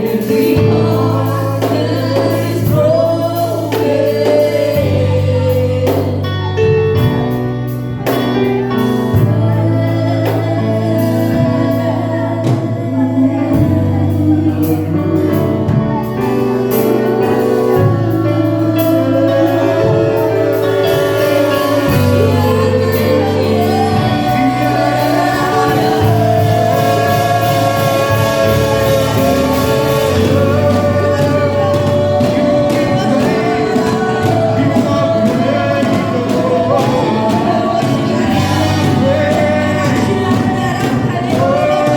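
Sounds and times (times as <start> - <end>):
bass line: 0.0 - 41.9
group singing gospel song: 0.0 - 41.9.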